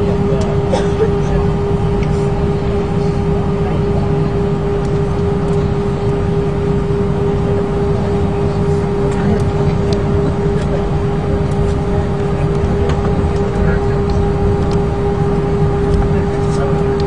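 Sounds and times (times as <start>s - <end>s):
jet engine rumble in cabin: 0.0s - 17.0s.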